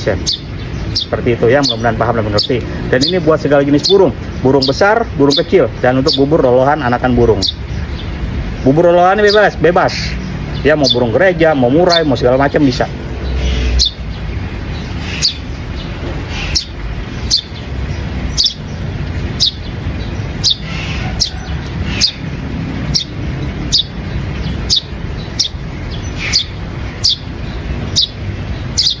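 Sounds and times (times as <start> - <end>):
songbird chirping: 0.0 - 29.0.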